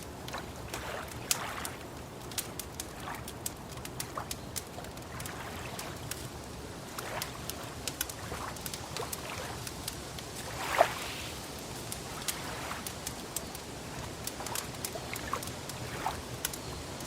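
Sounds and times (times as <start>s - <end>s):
lake water lapping: 0.0s - 17.0s
wood fire crackling: 0.0s - 17.0s.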